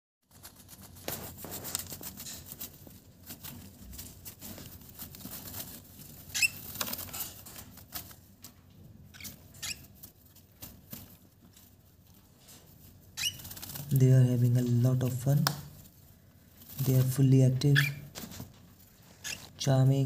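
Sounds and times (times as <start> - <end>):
birds scrambling on wood shavings: 0.3 - 15.2, 15.8 - 20.0.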